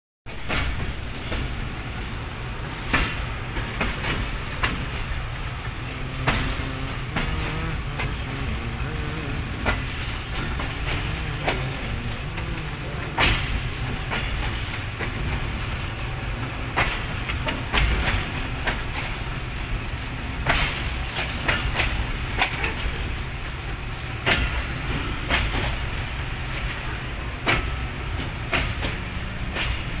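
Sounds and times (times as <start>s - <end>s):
train rumbling: 0.2s - 30.0s
wheels clacking over rail joints: 0.3s - 30.0s.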